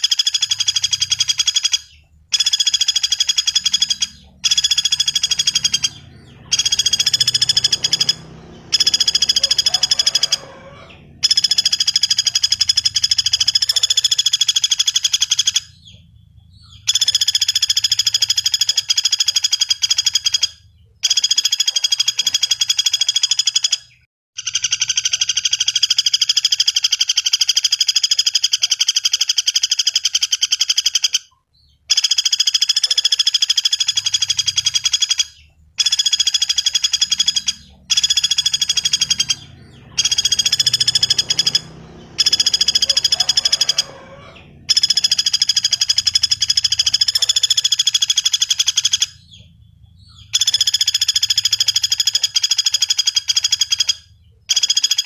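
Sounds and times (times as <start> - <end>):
woodpecker rattling trills: 0.0 - 55.0.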